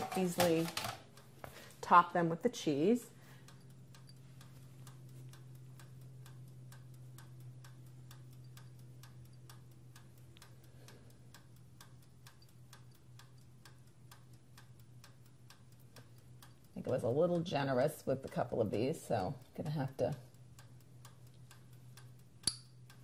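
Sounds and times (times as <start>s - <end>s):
steady low hum: 0.0s - 23.0s
timer dial ticking: 0.1s - 23.0s.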